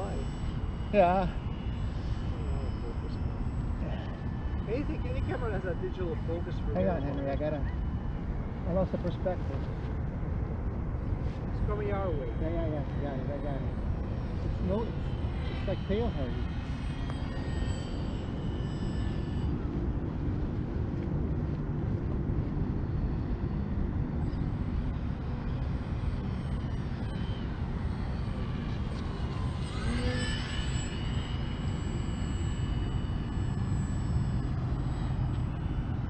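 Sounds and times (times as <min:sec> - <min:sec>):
rc plane propeller whine: 0:00.0 - 0:36.0.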